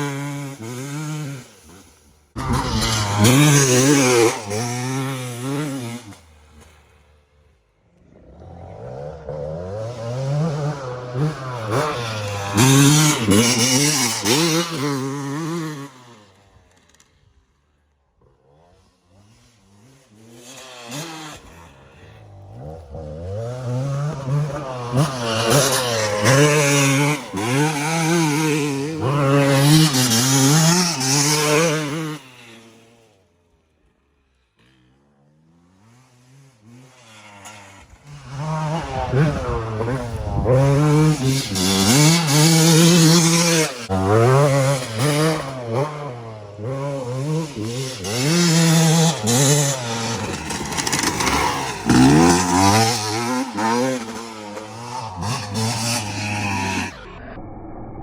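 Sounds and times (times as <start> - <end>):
motocross bike revving hard: 0.0 - 57.1.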